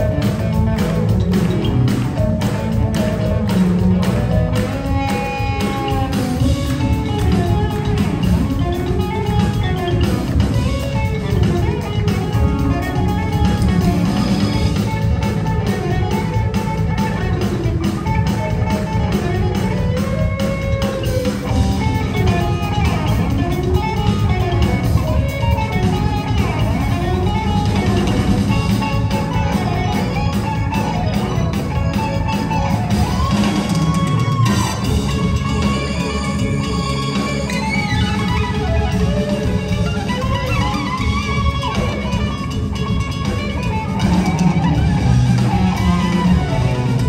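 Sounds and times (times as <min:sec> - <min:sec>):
electric guitar melody: 0:00.0 - 0:47.0
jazz fusion band playing: 0:00.0 - 0:47.0.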